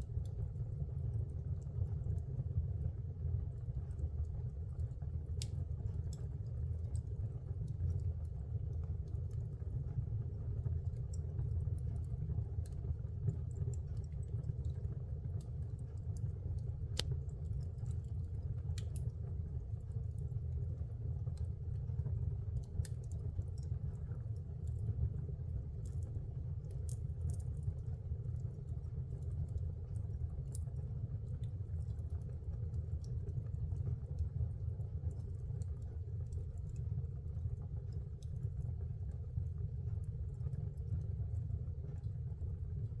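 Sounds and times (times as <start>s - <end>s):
fire burning in a fireplace: 0.0s - 43.0s
fire crackles and pops: 0.0s - 43.0s.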